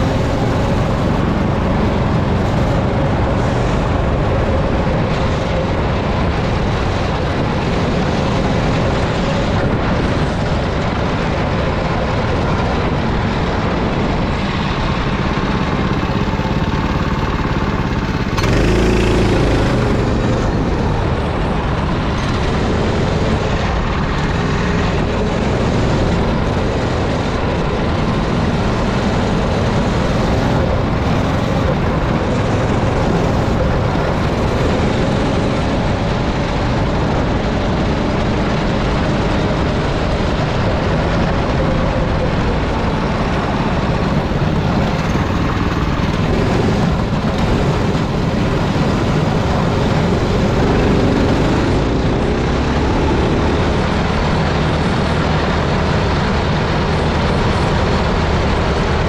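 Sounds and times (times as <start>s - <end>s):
go-kart engine running: 0.0s - 59.0s
wind and track noise: 0.0s - 59.0s.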